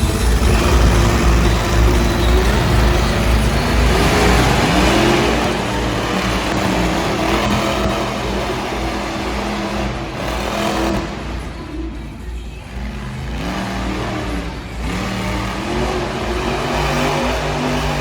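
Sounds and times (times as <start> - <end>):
monster truck engines revving: 0.0 - 18.0.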